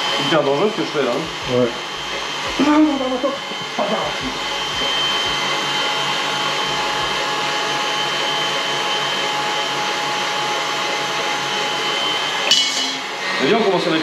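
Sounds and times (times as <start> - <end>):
electric mixer whirring: 0.0 - 14.0.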